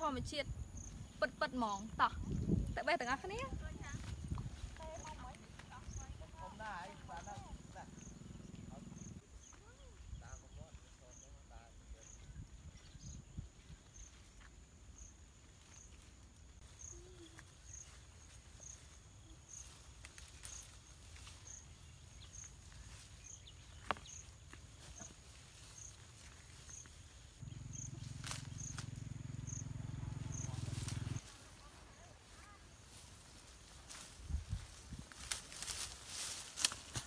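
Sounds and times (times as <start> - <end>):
insect chirping: 0.0 - 37.0.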